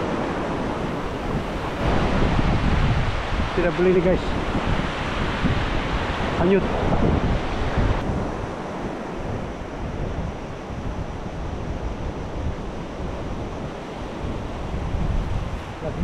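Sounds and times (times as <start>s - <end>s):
waves breaking on beach: 0.0s - 16.0s
wind buffeting microphone: 0.0s - 16.0s.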